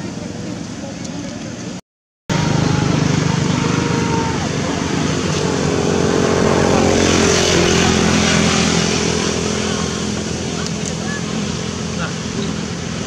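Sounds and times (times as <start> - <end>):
faint voices: 0.0 - 13.0
small engine running steadily: 0.0 - 13.0.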